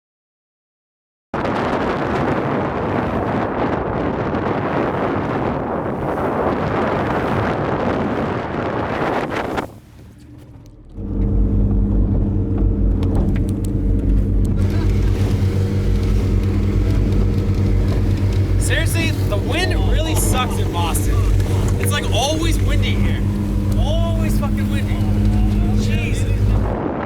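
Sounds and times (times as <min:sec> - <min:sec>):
outboard motors running: 0:01.4 - 0:27.0
wind on microphone: 0:01.4 - 0:27.0.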